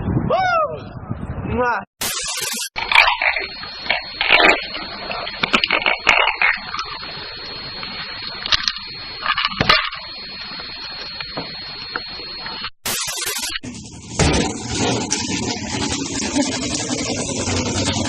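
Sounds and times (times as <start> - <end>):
thin high whine: 2.0 - 18.0.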